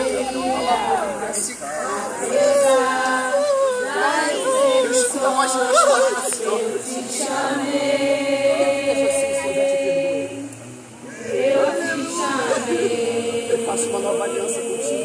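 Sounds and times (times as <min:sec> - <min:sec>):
voices singing a worship song: 0:00.0 - 0:15.0.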